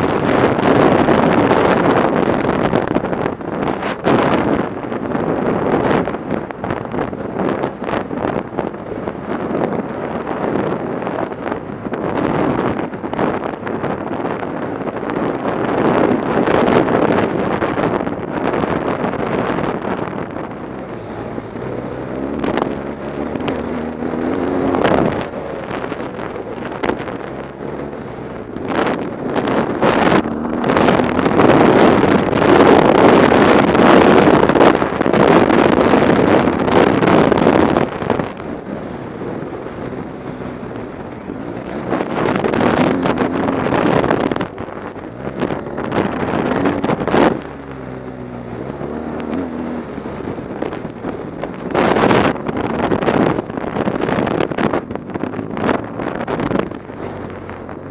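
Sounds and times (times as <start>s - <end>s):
motorcycle engine revving: 0.0s - 57.9s
wind noise on microphone: 0.0s - 57.9s.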